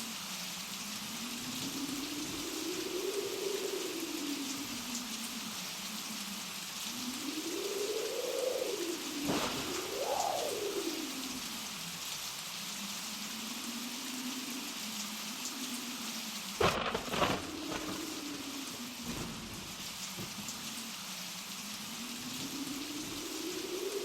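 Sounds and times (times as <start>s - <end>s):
blizzard wind howling: 0.0s - 24.0s.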